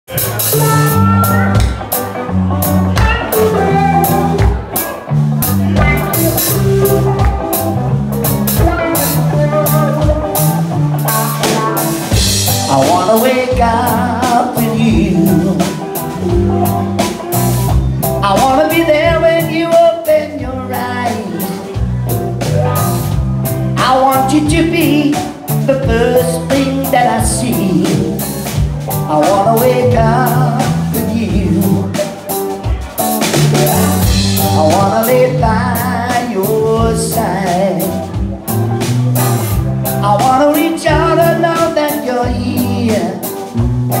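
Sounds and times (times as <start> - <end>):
live rock band playing: 0.1 - 44.0
man singing: 5.6 - 17.3, 18.0 - 32.8, 33.6 - 38.6, 39.8 - 44.0.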